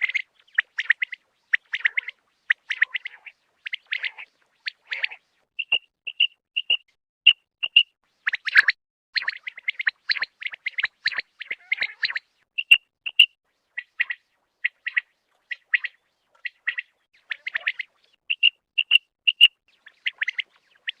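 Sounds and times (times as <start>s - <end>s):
quail calling in sharp high notes: 1.6s - 21.0s.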